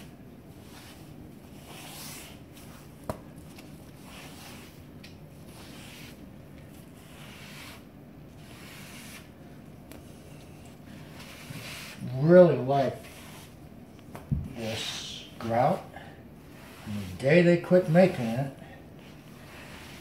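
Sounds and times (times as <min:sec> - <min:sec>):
sponge swishing across tile: 0:00.0 - 0:09.3, 0:10.0 - 0:13.6, 0:14.6 - 0:18.4, 0:19.0 - 0:20.0.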